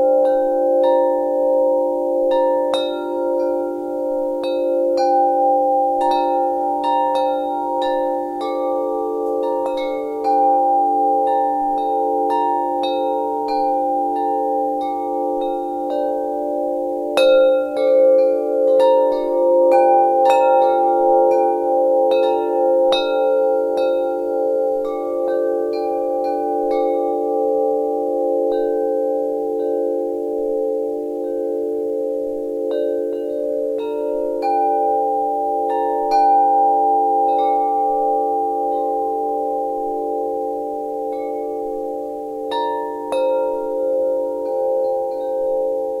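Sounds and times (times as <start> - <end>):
wind chimes ringing: 0.0 - 46.0.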